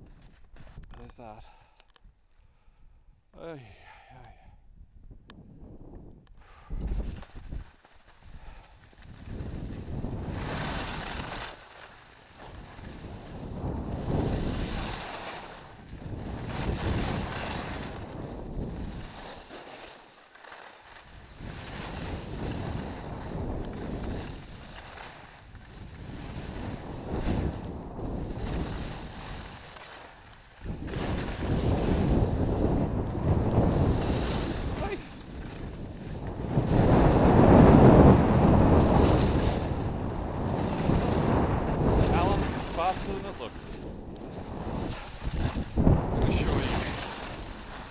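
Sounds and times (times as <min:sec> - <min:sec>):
wind buffeting microphone: 0:04.6 - 0:11.6, 0:12.3 - 0:19.3, 0:21.1 - 0:47.9
skis scraping on snow: 0:06.4 - 0:47.9.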